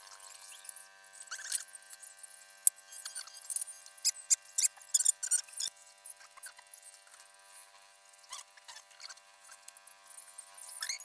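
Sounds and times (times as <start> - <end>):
metallic squeaks and clicks of parts: 0.1 - 7.3, 8.2 - 11.0.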